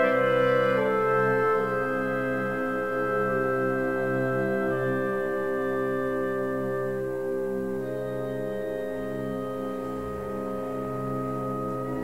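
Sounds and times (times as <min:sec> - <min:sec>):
orchestral music with solo cello: 0:00.0 - 0:12.0.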